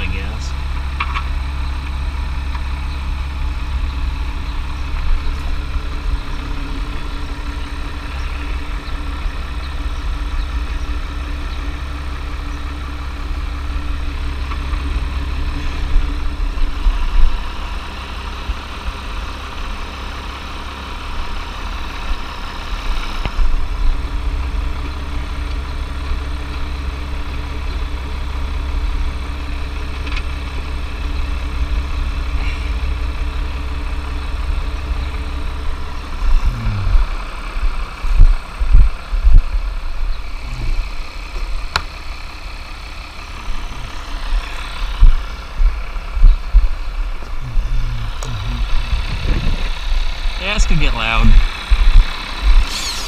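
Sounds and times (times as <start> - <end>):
engine idling with deep rumble: 0.0 - 53.0.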